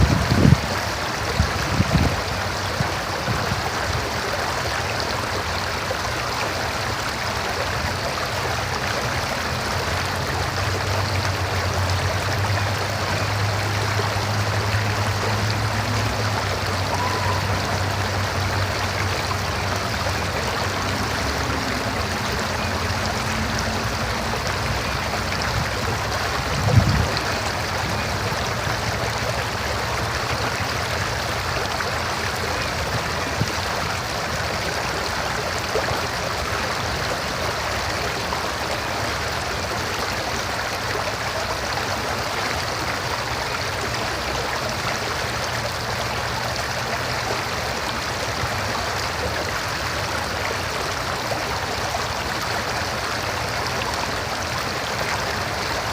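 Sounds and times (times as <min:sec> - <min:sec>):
river water over rocks: 0:00.0 - 0:55.9.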